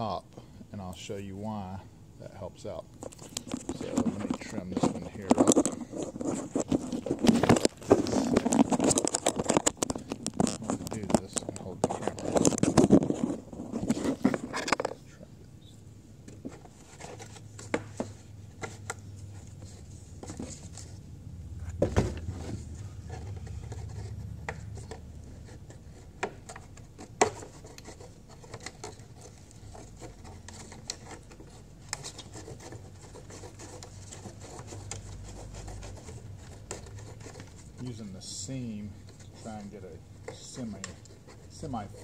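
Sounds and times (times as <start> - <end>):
low steady hum: 0.0 - 42.0
plastic scraping and rubbing: 3.0 - 15.0, 16.3 - 21.0, 21.6 - 42.0.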